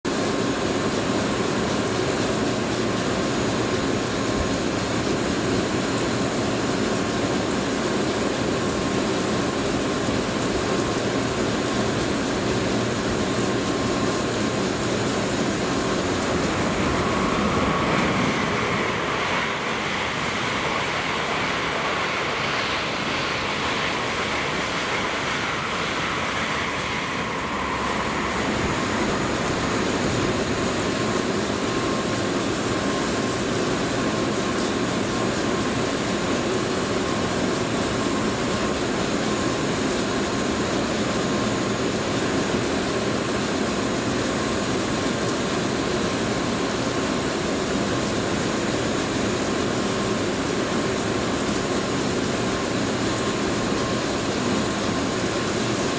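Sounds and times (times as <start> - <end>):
sprinklers spraying water: 0.1 - 55.9
train passing at speed: 0.1 - 55.9.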